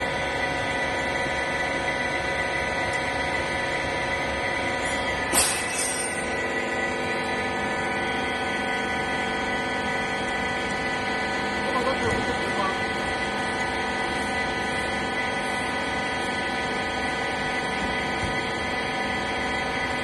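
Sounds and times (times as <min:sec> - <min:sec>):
baling machine humming: 0:00.0 - 0:20.0.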